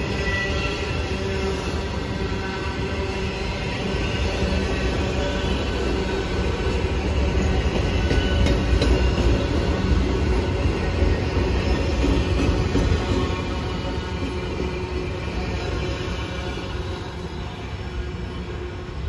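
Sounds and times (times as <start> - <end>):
steel wheels clattering on rail: 0.0 - 17.0.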